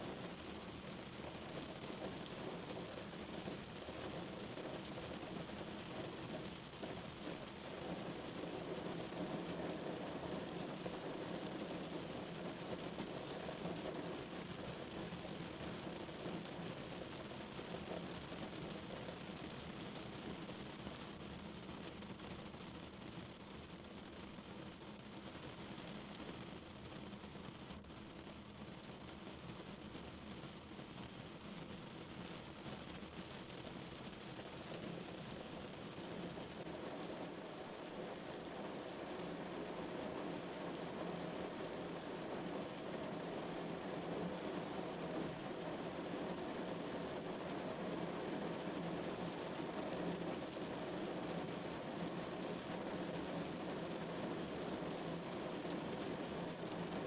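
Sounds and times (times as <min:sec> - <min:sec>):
rain falling on a car: 0:00.0 - 0:57.0.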